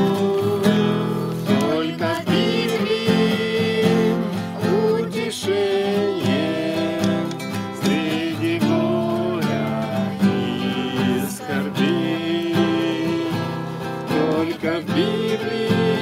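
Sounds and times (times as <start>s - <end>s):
classical guitar strumming: 0.0s - 16.0s
people singing: 0.0s - 16.0s.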